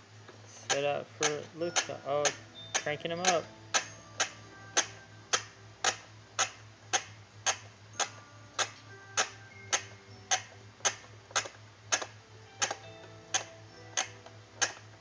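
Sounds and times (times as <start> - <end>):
faint steady tones: 0.0 - 15.0
low hum: 0.0 - 15.0
toy winch clicking: 0.5 - 15.0.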